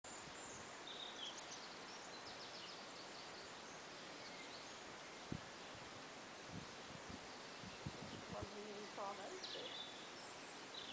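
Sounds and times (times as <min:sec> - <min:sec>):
small birds chirping: 0:00.1 - 0:10.9.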